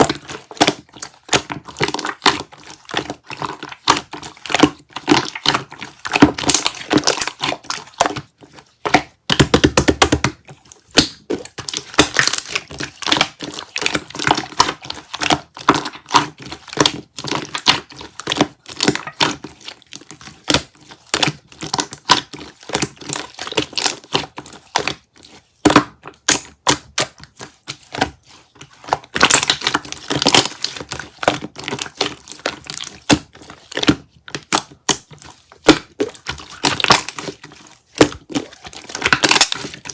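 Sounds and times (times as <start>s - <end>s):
slime squished by hand: 0.0s - 39.9s.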